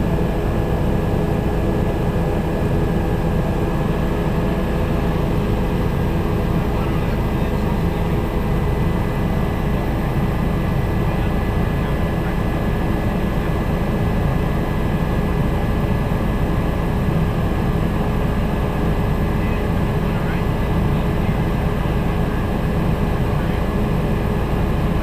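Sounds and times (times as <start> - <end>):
helicopter rotor and engine drone: 0.0 - 25.0.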